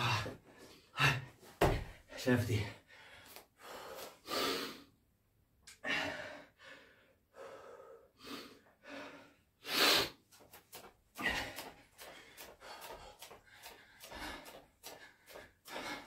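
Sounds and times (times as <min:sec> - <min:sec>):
man panting: 0:00.0 - 0:04.9, 0:05.7 - 0:16.0.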